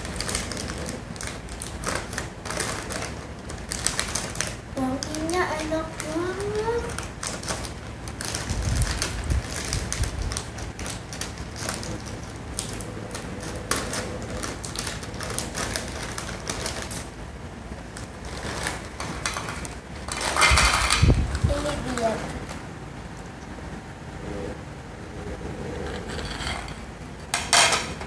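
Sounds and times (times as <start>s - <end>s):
plastic snack bag crinkling: 0.0s - 22.6s.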